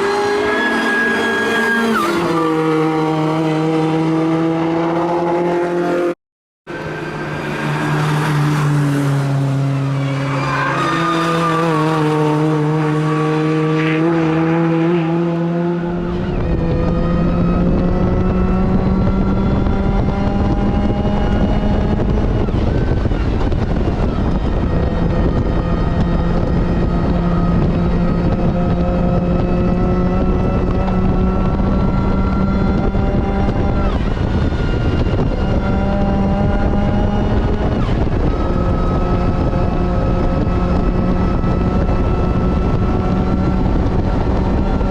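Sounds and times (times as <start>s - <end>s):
car engine at full throttle: 0.0s - 44.9s
wind and road rumble: 0.0s - 44.9s.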